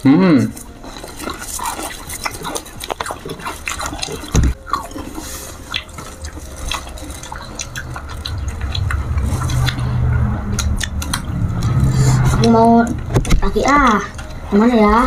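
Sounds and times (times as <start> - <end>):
wet crunchy chewing: 0.4 - 14.9.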